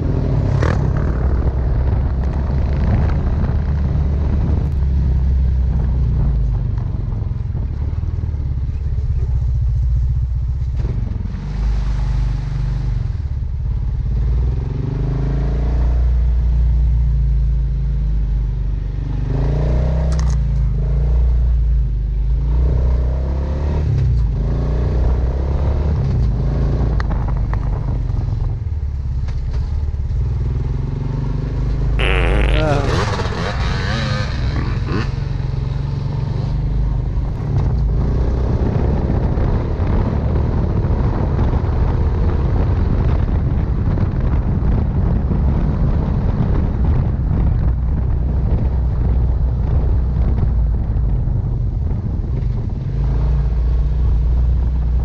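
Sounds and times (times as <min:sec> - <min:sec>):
wind rush on microphone: 0:00.0 - 0:17.6, 0:23.8 - 0:55.0.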